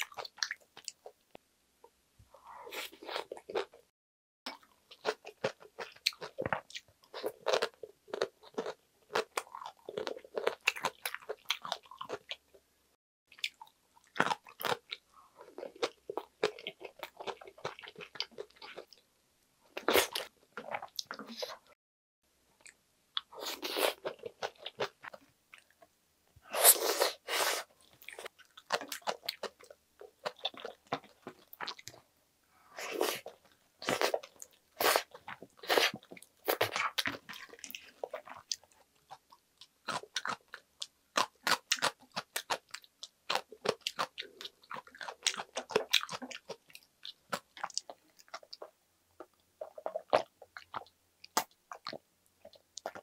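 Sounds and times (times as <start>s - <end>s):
close chewing with crisp crunches: 2.6s - 3.8s, 4.5s - 12.6s, 13.3s - 19.1s, 22.6s - 25.9s, 26.5s - 32.0s, 32.7s - 53.0s.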